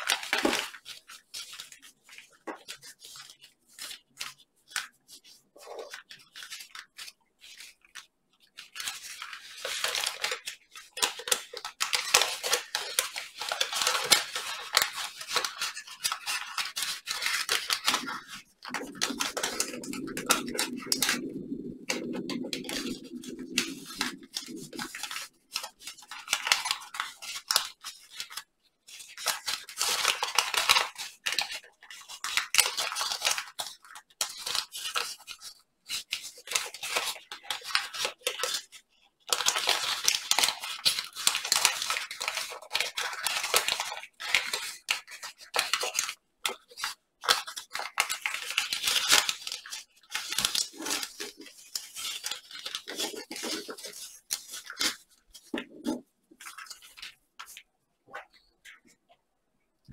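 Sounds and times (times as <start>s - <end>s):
paper rustling and crinkling: 0.0s - 59.2s.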